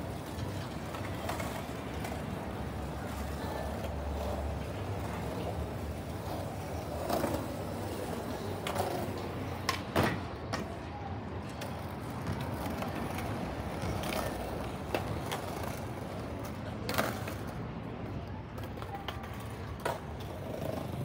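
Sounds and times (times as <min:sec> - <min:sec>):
distant traffic hum: 0:00.0 - 0:21.0.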